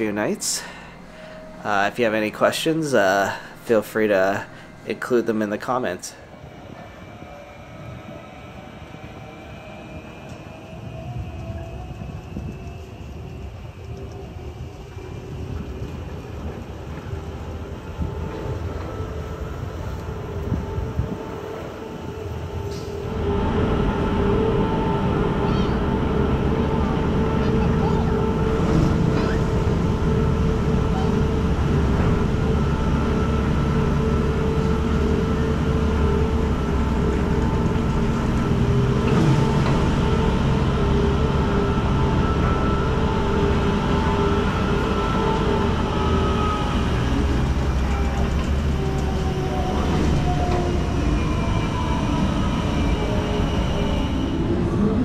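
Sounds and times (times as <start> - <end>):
lift machinery hum and rumble: 0.0 - 55.0
whining tones sliding in pitch: 3.8 - 55.0.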